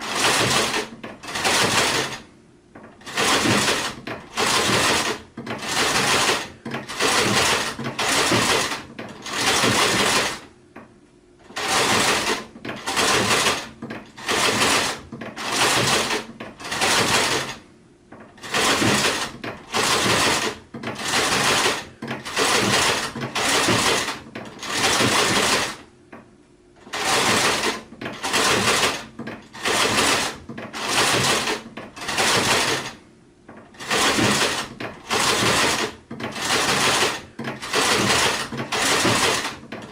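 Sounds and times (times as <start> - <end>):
sewing machine stitching: 0.0 - 10.5, 11.4 - 25.9, 26.8 - 39.9.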